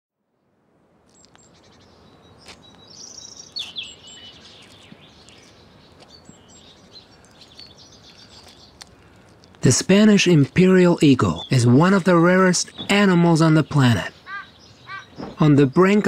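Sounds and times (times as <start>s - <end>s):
faint outdoor hiss: 0.2s - 16.0s
small birds chirping: 1.0s - 16.0s.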